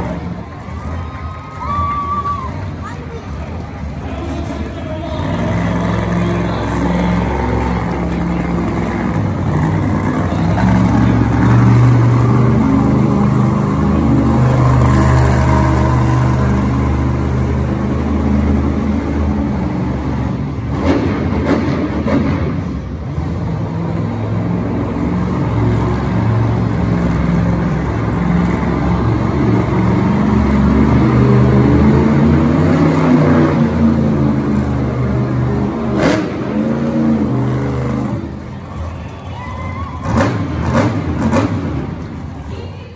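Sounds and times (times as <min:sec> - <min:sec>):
truck engine revving hard: 0:02.4 - 0:39.0, 0:40.0 - 0:42.4.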